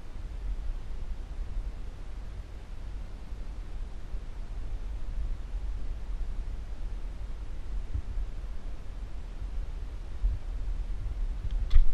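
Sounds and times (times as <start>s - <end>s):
faint steady hiss: 0.0s - 11.9s.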